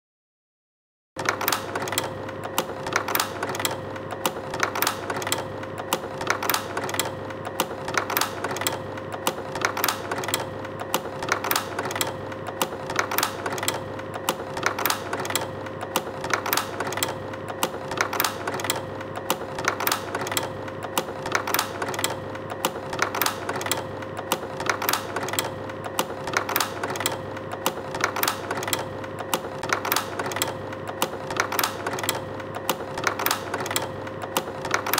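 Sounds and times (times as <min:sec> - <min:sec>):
projector motor hum: 0:01.2 - 0:34.9.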